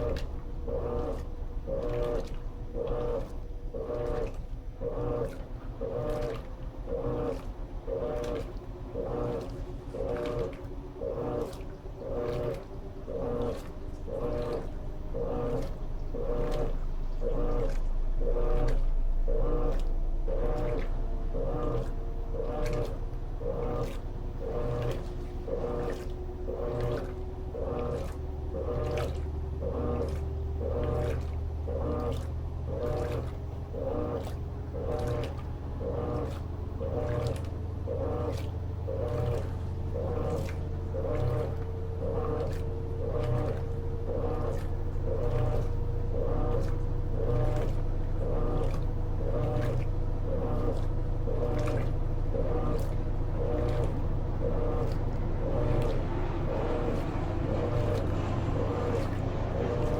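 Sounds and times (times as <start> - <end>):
steady low hum: 0.0 - 59.9
washing machine swishing strokes: 0.0 - 59.9.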